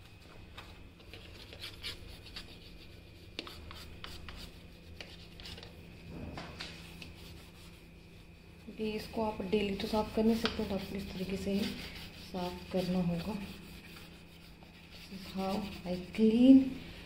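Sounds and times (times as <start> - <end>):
brush scrubbing: 1.0 - 5.7, 6.8 - 16.5.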